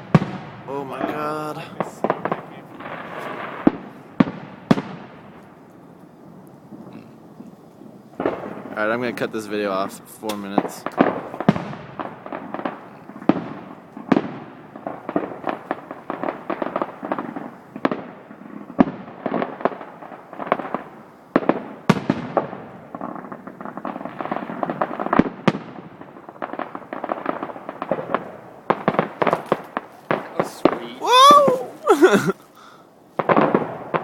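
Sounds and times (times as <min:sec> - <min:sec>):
loud firework booms: 0:00.0 - 0:05.6, 0:08.1 - 0:34.0
fireworks bangs and crackling pops: 0:00.0 - 0:34.0.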